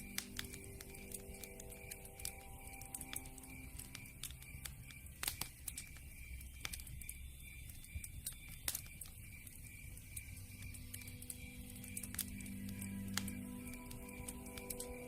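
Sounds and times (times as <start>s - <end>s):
campfire crackling: 0.0s - 15.0s
faint high chirping: 0.0s - 15.0s.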